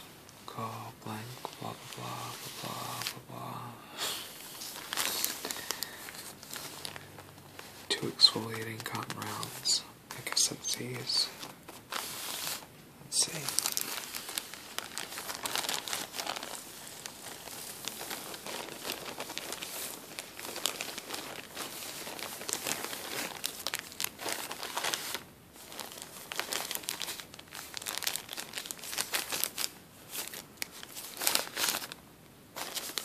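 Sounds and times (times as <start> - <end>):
plastic bag crinkling: 4.3 - 33.0.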